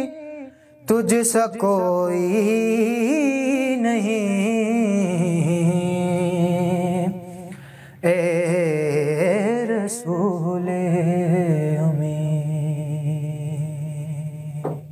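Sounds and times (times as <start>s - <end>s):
man singing unaccompanied: 0.0s - 14.9s.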